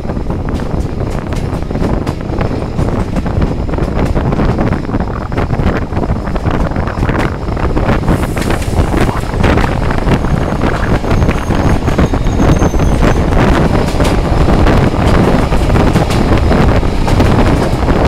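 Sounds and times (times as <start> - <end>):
train rumbling on tracks: 0.0 - 18.0
wind buffeting microphone: 0.0 - 18.0.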